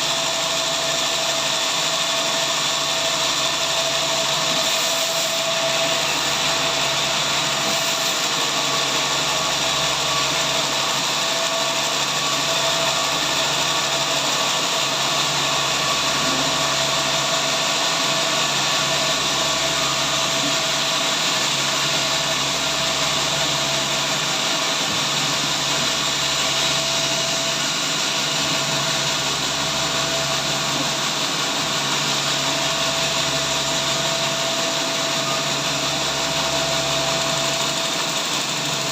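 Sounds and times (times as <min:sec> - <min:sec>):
sawmill saw running: 0:00.0 - 0:38.9.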